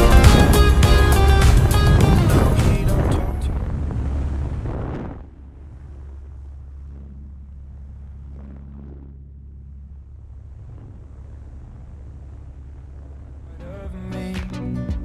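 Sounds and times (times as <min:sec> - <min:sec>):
wind rushing over microphone: 0:00.0 - 0:14.0
plane engine and propeller drone: 0:00.0 - 0:14.4.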